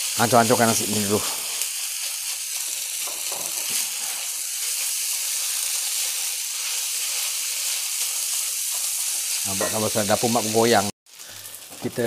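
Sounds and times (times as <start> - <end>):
rice sizzling in a wok: 0.0 - 12.0
spatula stirring rice: 0.4 - 10.2.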